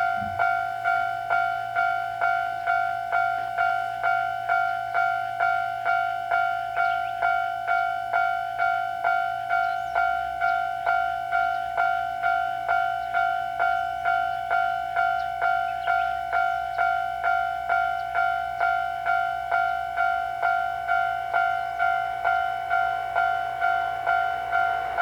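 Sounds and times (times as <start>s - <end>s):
level crossing alarm ringing: 0.0s - 25.0s.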